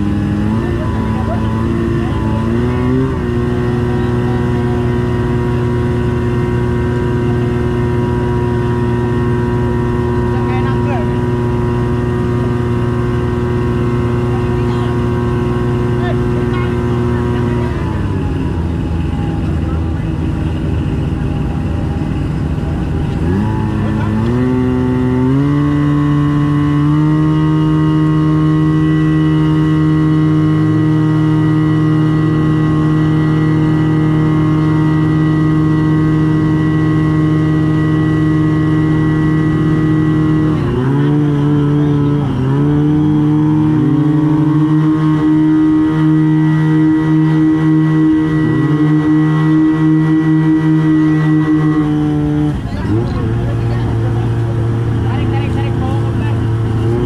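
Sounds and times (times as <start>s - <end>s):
pump engine running: 0.0s - 57.0s.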